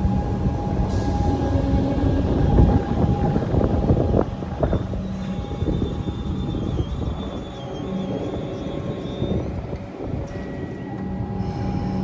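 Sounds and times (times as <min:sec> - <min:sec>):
electric train hum: 0:00.0 - 0:12.0
train wheels rumbling: 0:00.0 - 0:12.0.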